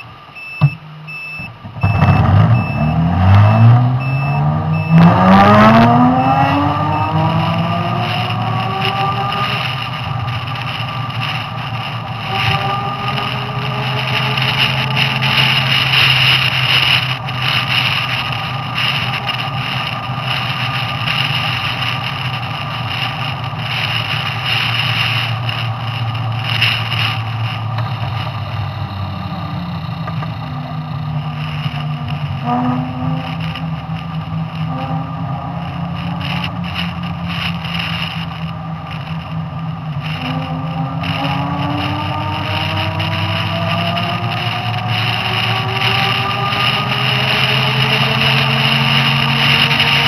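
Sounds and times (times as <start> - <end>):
car engine alongside: 0.0 - 50.0.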